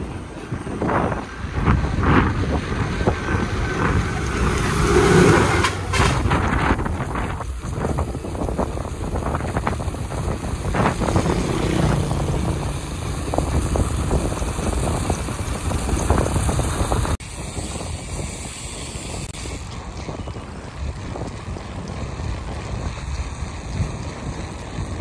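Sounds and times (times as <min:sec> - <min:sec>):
tyre and road noise: 0:00.0 - 0:25.0
wind buffeting microphone: 0:00.0 - 0:25.0.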